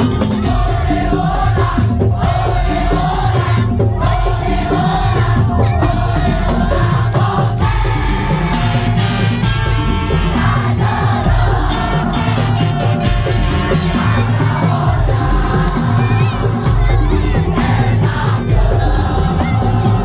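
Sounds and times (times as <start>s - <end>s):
heavy drums: 0.0s - 20.0s.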